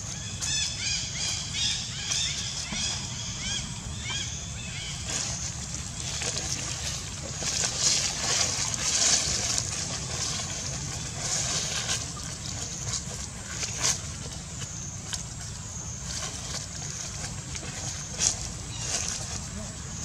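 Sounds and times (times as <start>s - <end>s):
steady low rumble: 0.0s - 20.0s
dry leaves rustling and crackling: 0.1s - 20.0s.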